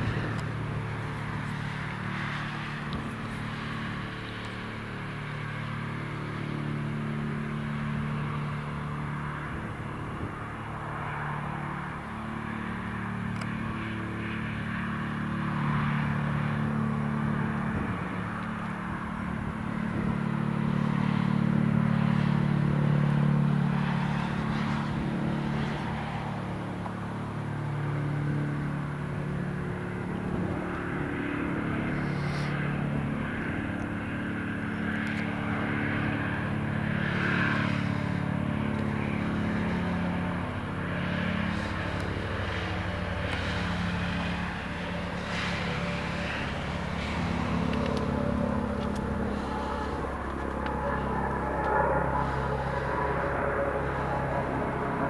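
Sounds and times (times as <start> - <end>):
helicopter rotor hum: 0.0 - 55.0.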